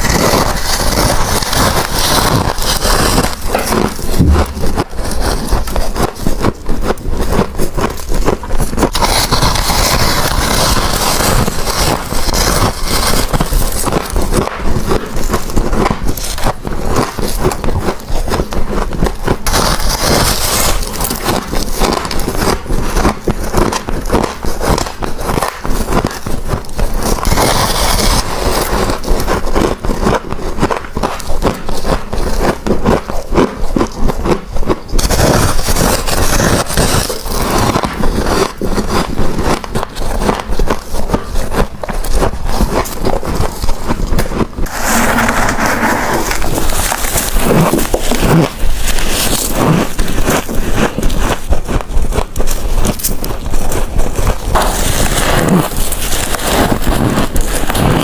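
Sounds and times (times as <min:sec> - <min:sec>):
ice crunching from bites: 0:00.0 - 0:58.0.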